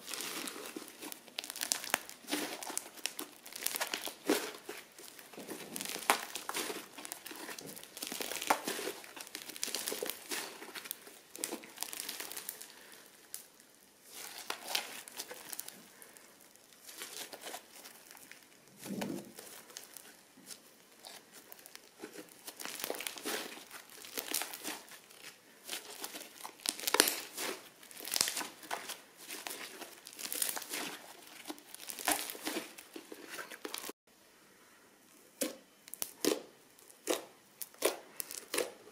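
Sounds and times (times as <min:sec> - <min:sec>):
crunchy slime crackling: 0:00.0 - 0:34.0, 0:35.3 - 0:38.9.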